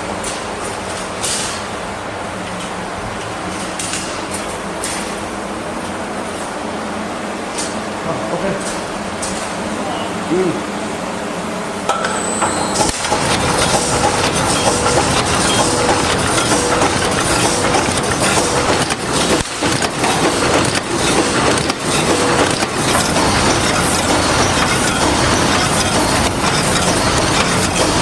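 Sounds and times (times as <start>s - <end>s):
welding machine clatter: 0.0s - 6.6s, 11.9s - 28.0s.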